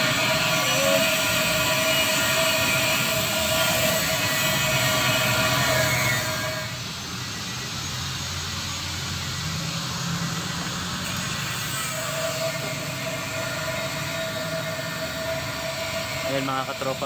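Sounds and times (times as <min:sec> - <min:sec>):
grinder grinding steel: 0:00.0 - 0:17.0.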